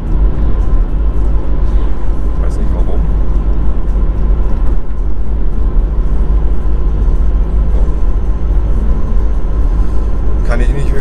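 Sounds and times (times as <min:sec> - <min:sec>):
van engine and tyre rumble: 0:00.0 - 0:11.0.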